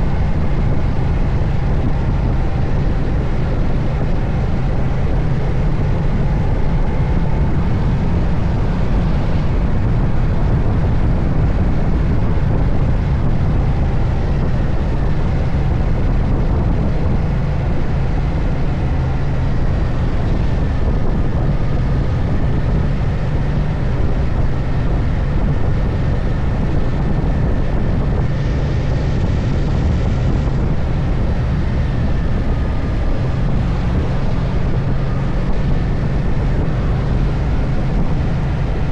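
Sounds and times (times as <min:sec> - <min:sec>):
motorcycle engine running: 0:00.0 - 0:38.9
wind and road rush: 0:00.0 - 0:38.9.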